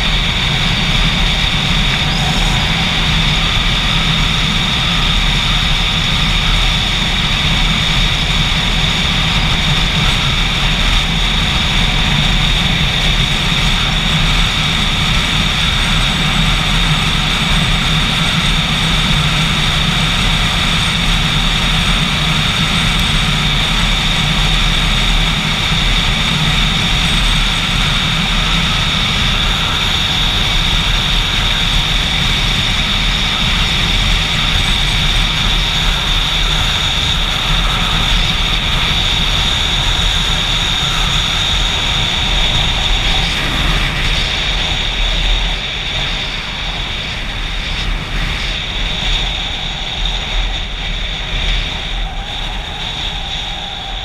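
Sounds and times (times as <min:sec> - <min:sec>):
motorcycle engine drone: 0:00.0 - 0:54.0.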